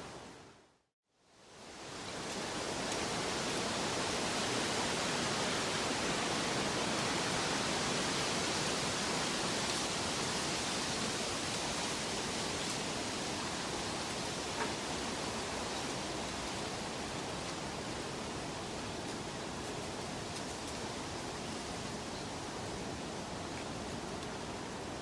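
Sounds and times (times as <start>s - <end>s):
rushing water: 1.3s - 25.0s.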